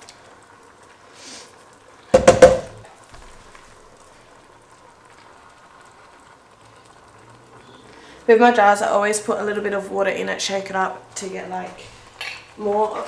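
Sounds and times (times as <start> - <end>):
faint sizzling: 0.0 - 13.0.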